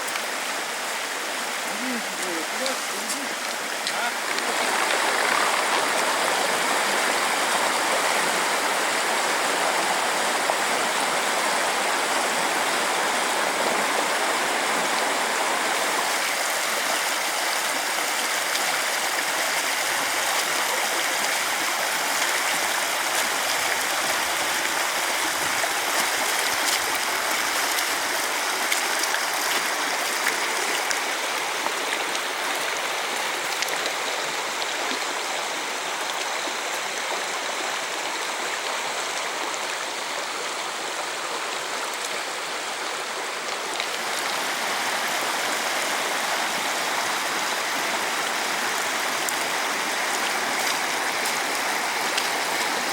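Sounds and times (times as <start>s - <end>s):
small waterfall splashing: 0.0s - 52.9s.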